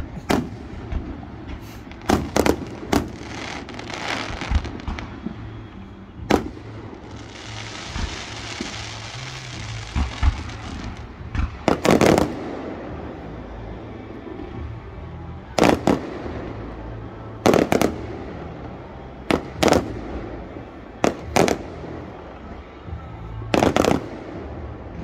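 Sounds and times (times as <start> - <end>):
firework crackle: 0.0 - 14.8, 15.5 - 25.0.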